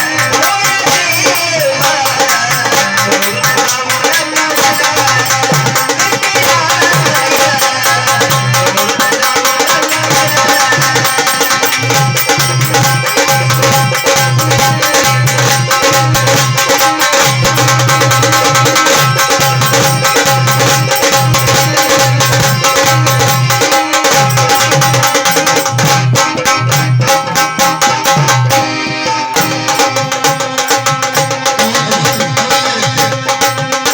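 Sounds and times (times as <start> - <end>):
folk music with hand drum: 0.0 - 33.9.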